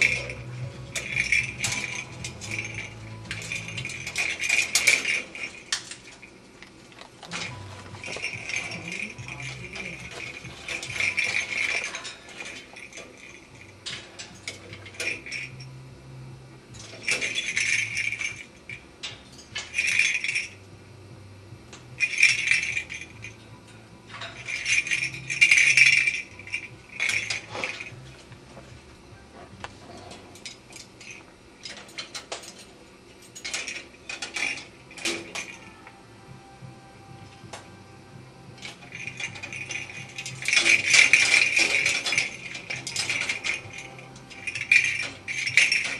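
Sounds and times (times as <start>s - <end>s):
parrot toy rattling and clinking: 0.0s - 15.8s, 16.7s - 20.7s, 21.7s - 28.8s, 29.4s - 36.0s, 38.5s - 45.9s.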